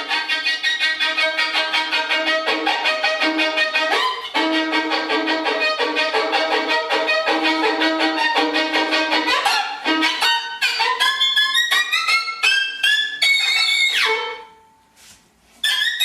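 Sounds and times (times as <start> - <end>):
violin-like instrumental music: 0.0 - 14.8, 15.6 - 16.0.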